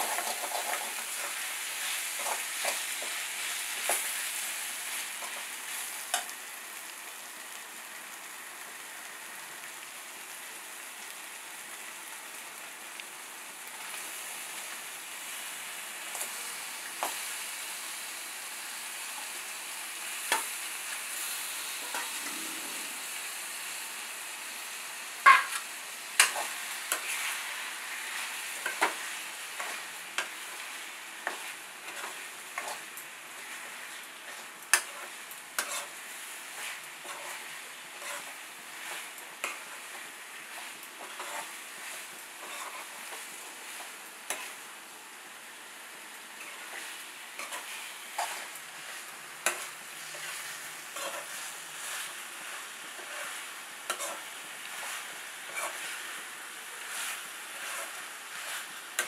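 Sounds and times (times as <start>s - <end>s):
masala sizzling in oil: 0.0s - 59.0s.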